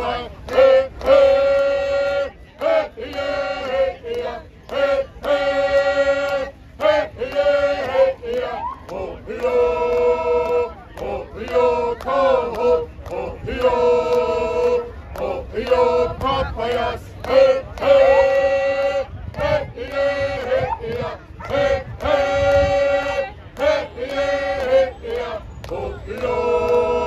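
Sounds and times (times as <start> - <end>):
group of people singing: 0.0 - 27.0.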